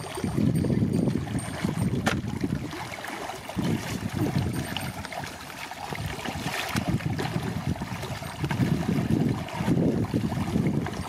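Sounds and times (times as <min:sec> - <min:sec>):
muddy water sloshing and splashing: 0:00.0 - 0:11.0.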